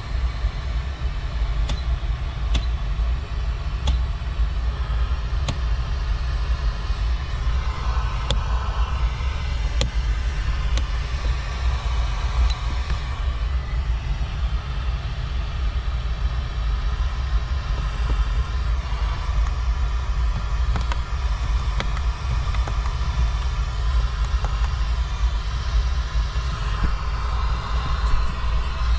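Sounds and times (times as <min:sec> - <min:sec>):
car engine low rumble: 0:00.0 - 0:28.9.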